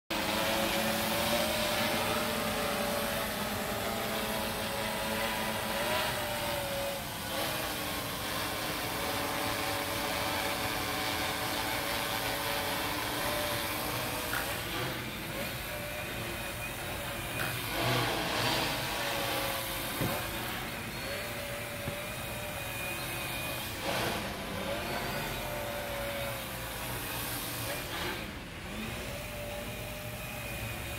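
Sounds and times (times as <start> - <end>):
drone propellers humming: 0.1 - 30.9.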